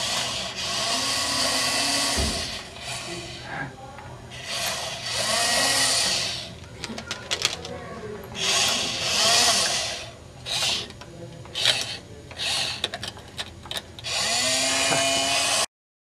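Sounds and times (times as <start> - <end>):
toy motor whirring: 0.0 - 3.6, 4.3 - 7.8, 8.4 - 15.7.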